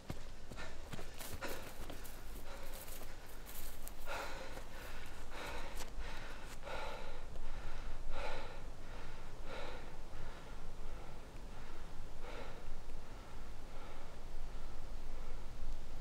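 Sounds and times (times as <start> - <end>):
man breathing hard: 0.0 - 15.6.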